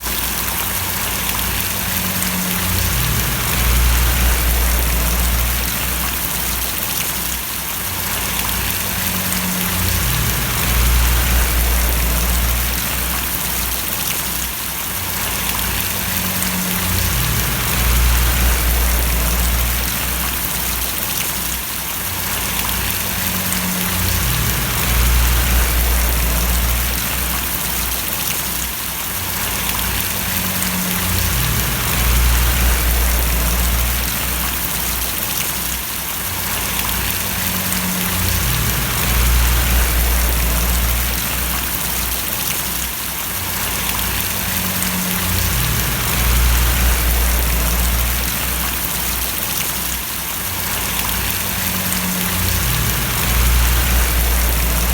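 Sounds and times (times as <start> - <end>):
rain falling and splashing: 0.0 - 54.9
low rumble: 1.1 - 6.8, 8.2 - 14.1, 15.2 - 21.0, 22.5 - 28.3, 29.4 - 35.2, 36.7 - 42.5, 43.6 - 49.4, 50.8 - 54.9.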